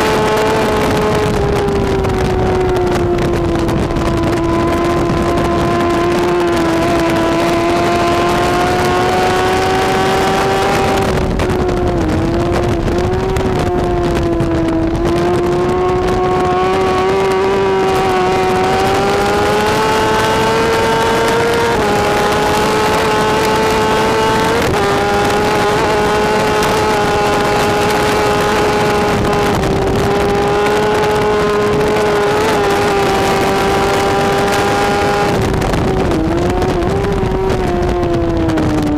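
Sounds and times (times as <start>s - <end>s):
motorcycle engine revving high: 0.0s - 38.9s.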